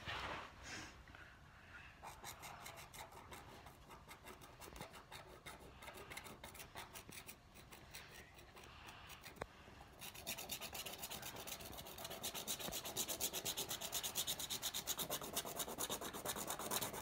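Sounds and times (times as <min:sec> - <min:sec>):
stylus scratching paper: 0:02.0 - 0:17.0.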